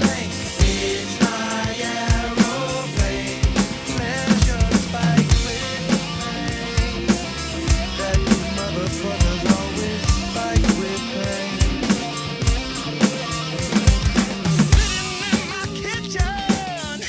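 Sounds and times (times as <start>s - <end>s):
drum kit playing: 0.0s - 17.0s
recorded song with bass line: 0.0s - 17.0s.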